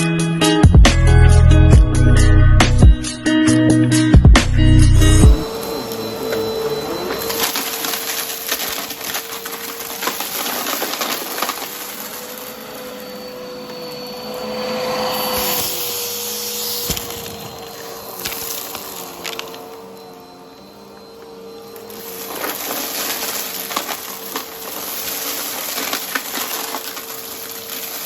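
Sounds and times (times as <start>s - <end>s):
vacuum cleaner running: 5.2s - 28.0s
debris crackling in vacuum: 5.4s - 28.0s.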